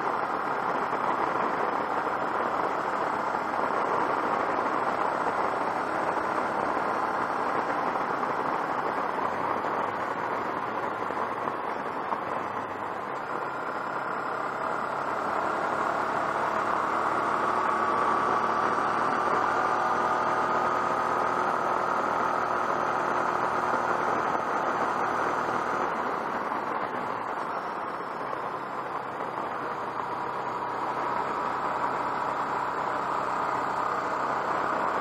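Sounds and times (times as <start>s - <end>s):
motorcycle engine drone: 0.0s - 35.0s.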